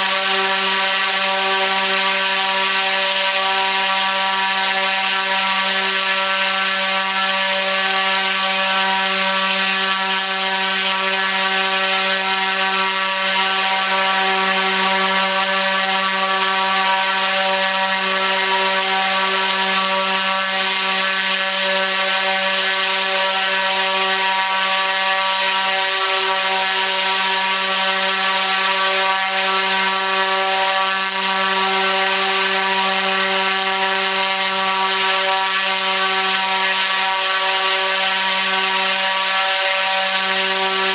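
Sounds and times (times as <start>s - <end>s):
electric motor propeller hum: 0.0s - 40.9s.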